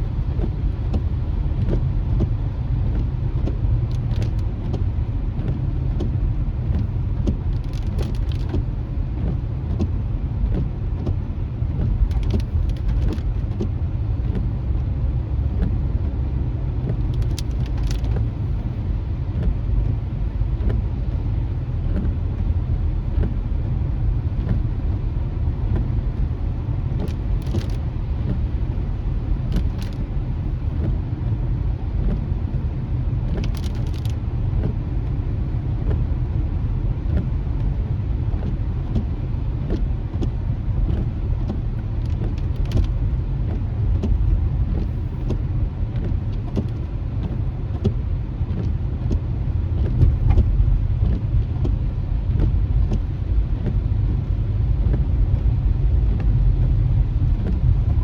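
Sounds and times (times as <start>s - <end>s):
car interior low rumble: 0.0s - 58.0s.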